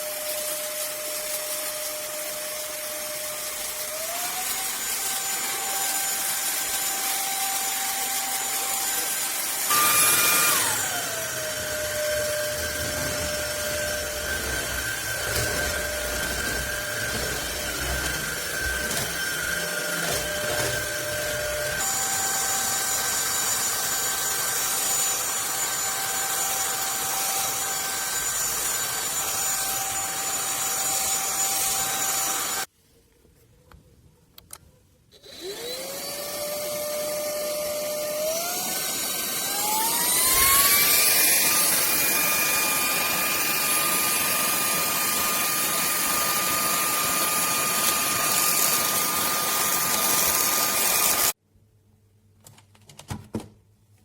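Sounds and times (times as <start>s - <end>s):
stick vacuum whine: 0.0s - 32.7s, 35.2s - 51.4s.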